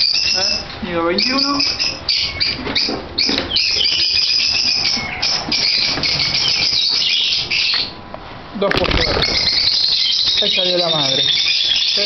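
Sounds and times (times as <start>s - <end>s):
lovebirds chattering and shrieking: 0.0s - 8.0s, 8.7s - 12.0s.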